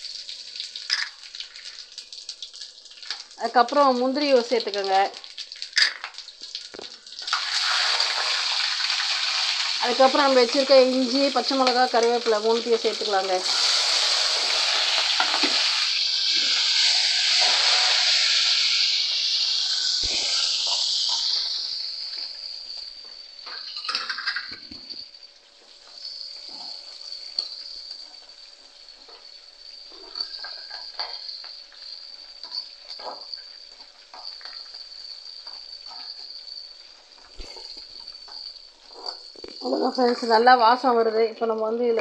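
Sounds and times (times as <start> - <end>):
spices sizzling in hot oil: 0.0 - 42.0.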